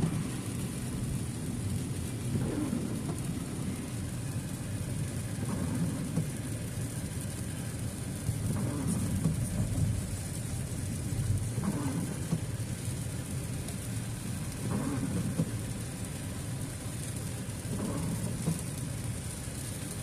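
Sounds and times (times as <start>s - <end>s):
car driving on wet road: 0.0s - 20.0s.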